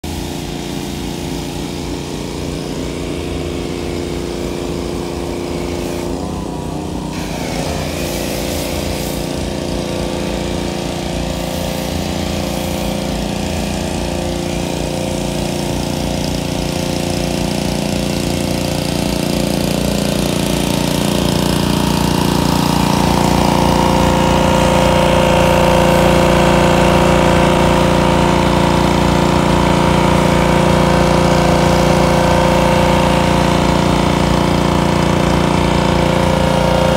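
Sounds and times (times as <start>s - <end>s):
pressure washer running: 0.0s - 36.9s.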